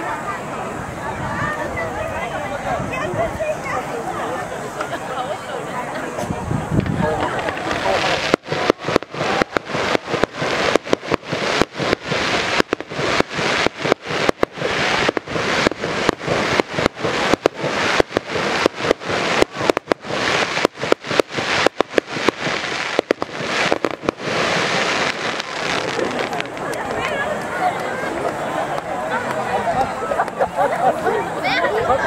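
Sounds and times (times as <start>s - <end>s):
fireworks bangs and crackling: 0.0s - 30.5s.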